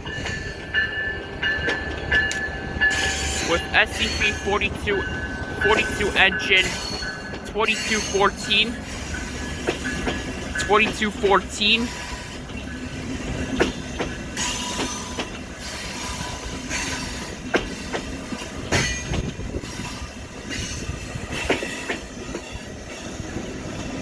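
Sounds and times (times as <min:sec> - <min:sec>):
train rumbling past: 0:00.0 - 0:24.0
wheels clicking over rail joints: 0:00.0 - 0:24.0.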